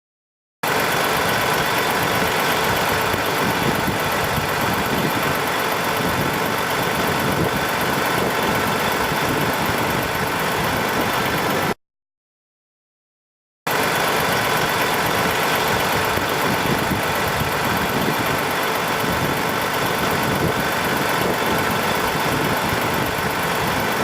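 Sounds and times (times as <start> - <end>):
diesel truck engine idling: 0.6 - 11.8, 13.7 - 24.0.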